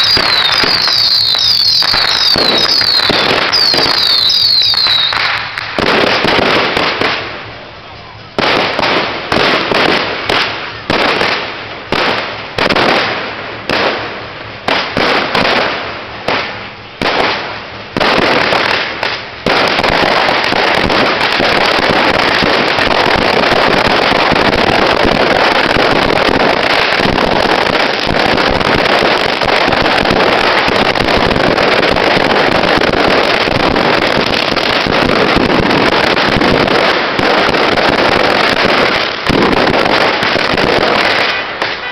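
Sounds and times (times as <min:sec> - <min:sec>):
firecracker bangs: 0:00.0 - 0:41.9.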